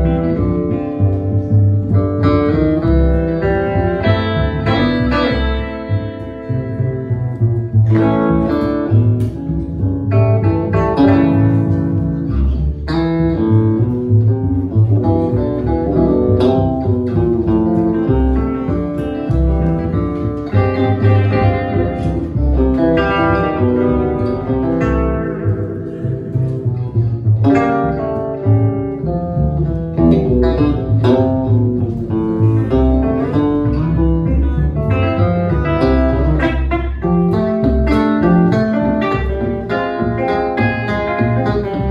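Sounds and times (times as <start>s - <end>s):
electric guitar plucked notes: 0.0s - 41.9s
plucked double bass: 0.0s - 41.9s.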